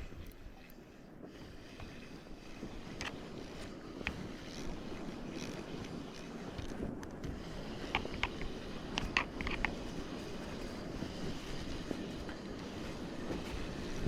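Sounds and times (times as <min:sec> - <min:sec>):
water rushing around kayak: 0:00.0 - 0:14.0
wind on microphone: 0:00.0 - 0:14.0.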